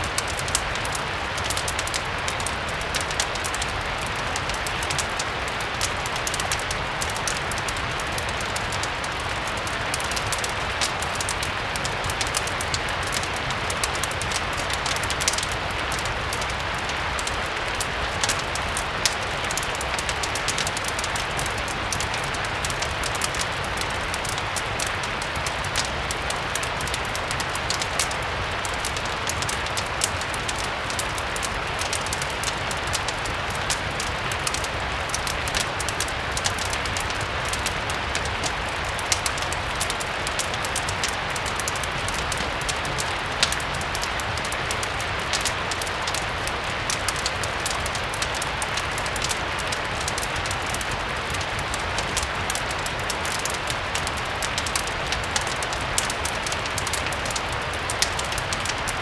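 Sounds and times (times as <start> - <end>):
fireplace crackling: 0.0 - 59.0
steady rain: 0.0 - 59.0.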